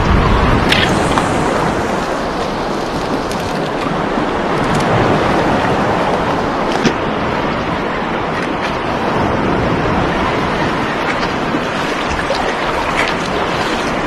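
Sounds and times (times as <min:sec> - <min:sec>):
open sea: 0:00.0 - 0:14.0
wind: 0:00.0 - 0:14.0.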